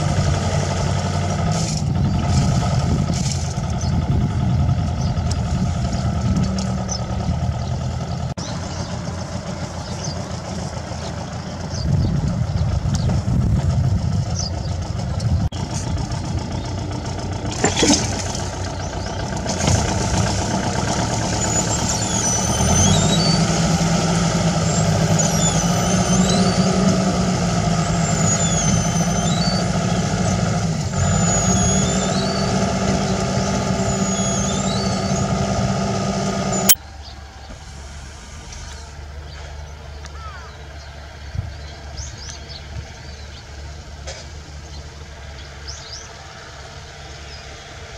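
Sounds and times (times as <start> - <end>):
tractor engine drone: 0.0 - 47.9.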